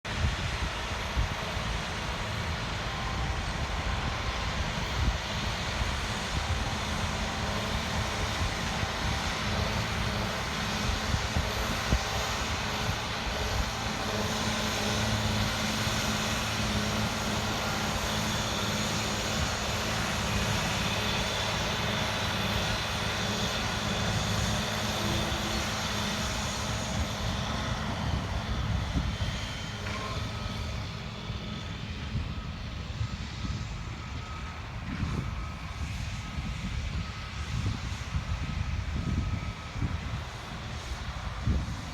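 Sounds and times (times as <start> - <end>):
tractor engine droning: 1.4 - 36.0.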